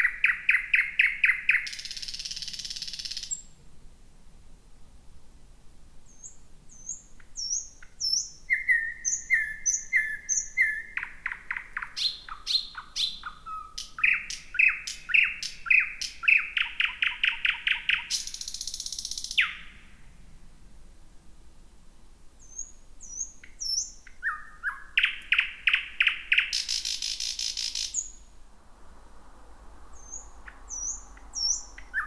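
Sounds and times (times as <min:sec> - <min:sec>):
thrush nightingale singing: 0:00.0 - 0:03.6, 0:06.1 - 0:20.0, 0:22.4 - 0:28.4, 0:29.2 - 0:32.0.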